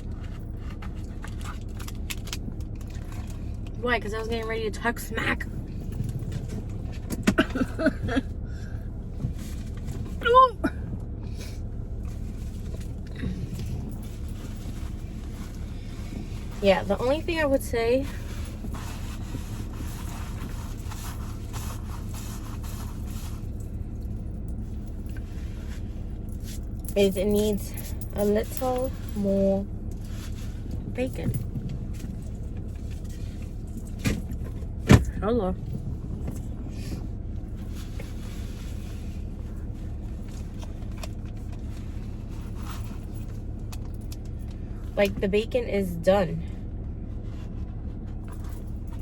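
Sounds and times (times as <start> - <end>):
car engine running inside car: 0.0 - 49.0
steady low rumble: 0.0 - 49.0.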